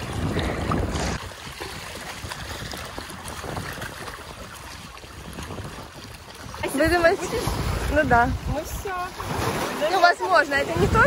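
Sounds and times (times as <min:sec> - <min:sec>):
small waves lapping around rock: 0:00.0 - 0:11.0
wind rumbling on microphone: 0:00.0 - 0:11.0.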